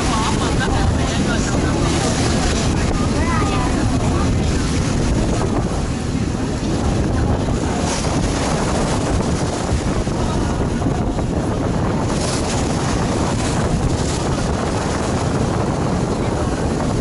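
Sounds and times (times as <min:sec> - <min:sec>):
ferry engine rumbling: 0:00.0 - 0:17.0
water rushing past hull: 0:00.0 - 0:17.0
wind buffeting microphone: 0:00.0 - 0:17.0.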